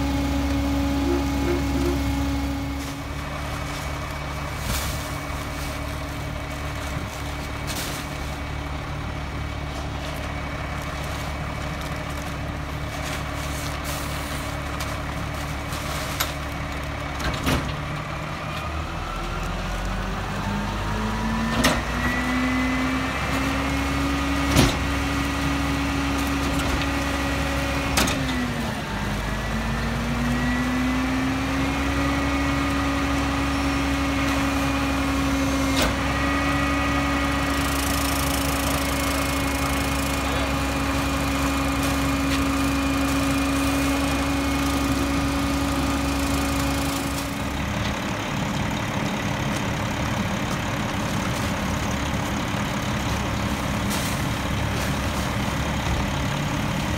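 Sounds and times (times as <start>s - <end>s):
diesel truck engine: 0.0s - 56.9s.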